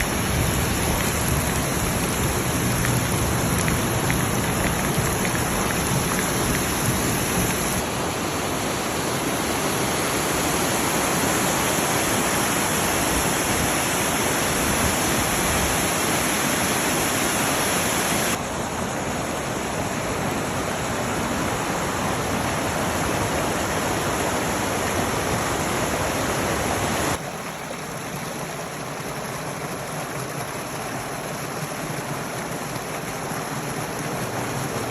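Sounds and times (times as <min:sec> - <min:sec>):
heavy rain: 0:00.0 - 0:34.9
running floodwater: 0:00.0 - 0:34.9.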